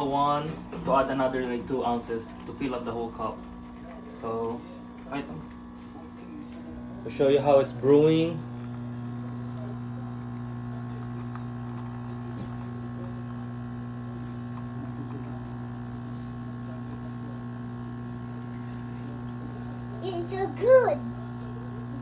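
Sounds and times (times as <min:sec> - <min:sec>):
coffee maker pump humming: 0:00.0 - 0:22.0.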